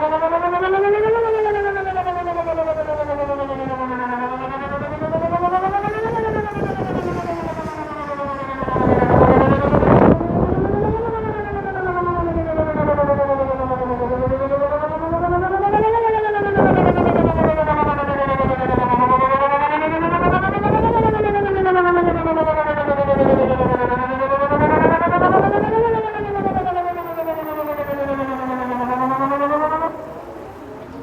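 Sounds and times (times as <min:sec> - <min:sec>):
warning siren slow wail: 0:00.0 - 0:31.0.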